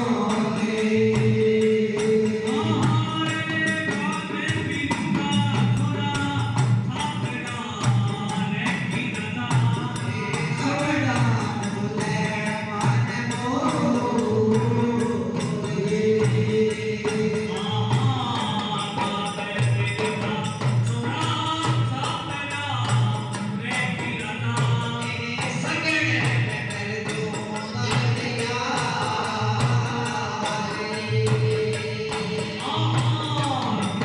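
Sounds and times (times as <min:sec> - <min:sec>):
man singing devotional song: 0:00.0 - 0:34.0
steady drum beat: 0:00.0 - 0:34.0
tambourine-like percussion: 0:00.0 - 0:34.0.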